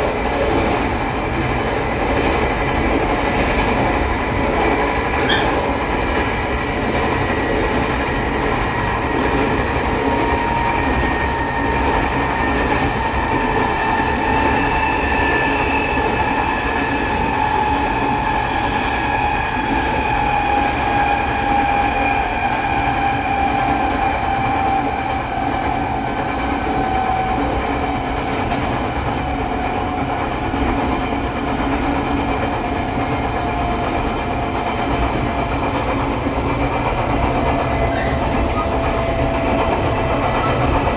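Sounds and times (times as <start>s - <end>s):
train wheels rolling on rail: 0.0s - 40.9s.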